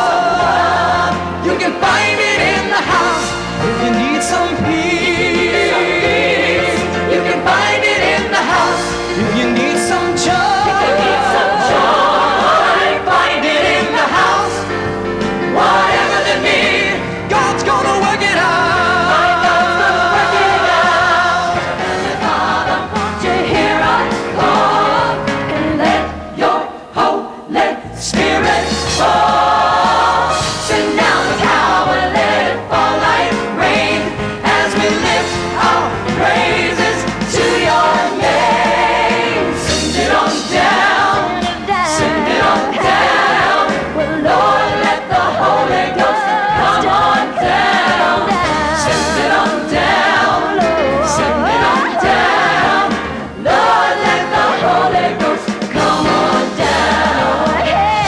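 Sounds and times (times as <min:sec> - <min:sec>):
band with steady bass line: 0:00.0 - 0:26.4, 0:27.9 - 0:58.0
gospel choir singing: 0:00.0 - 0:58.0.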